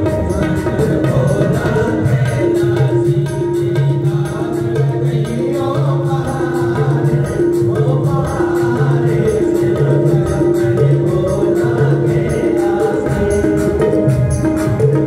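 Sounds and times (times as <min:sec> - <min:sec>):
hand-drum percussion: 0:00.0 - 0:15.0
man singing through loudspeakers: 0:00.0 - 0:15.0.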